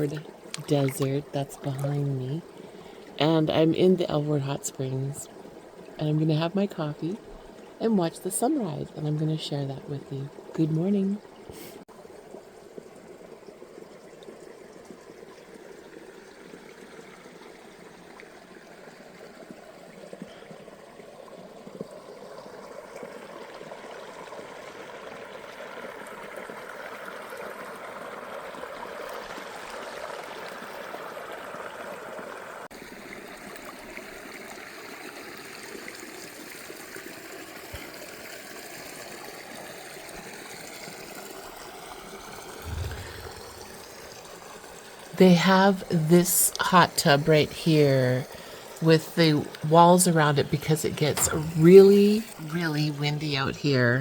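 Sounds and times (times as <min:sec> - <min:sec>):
water flowing and trickling: 0:00.0 - 0:54.0.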